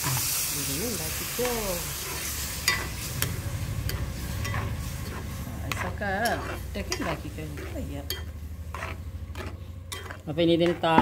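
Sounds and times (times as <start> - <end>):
spoon scraping metal pan: 1.4 - 11.0.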